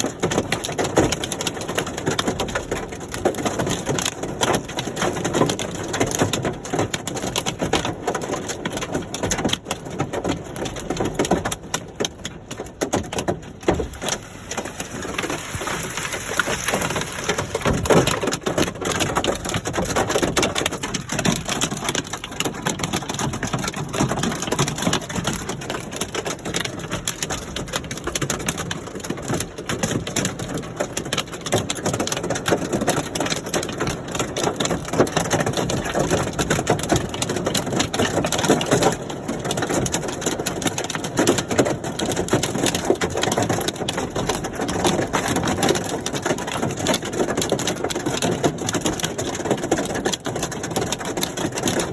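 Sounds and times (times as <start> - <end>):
hailstones clattering: 0.0 - 51.9.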